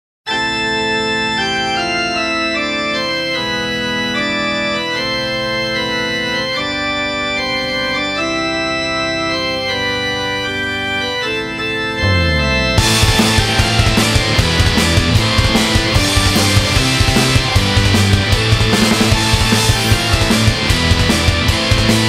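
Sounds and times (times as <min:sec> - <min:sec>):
organ keyboard chords: 0:00.3 - 0:22.0.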